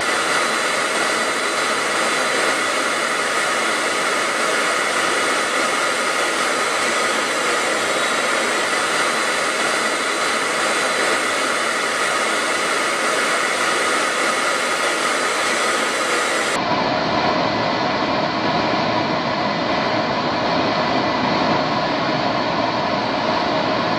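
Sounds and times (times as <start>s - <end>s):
jet aircraft engine rush: 0.0s - 23.9s.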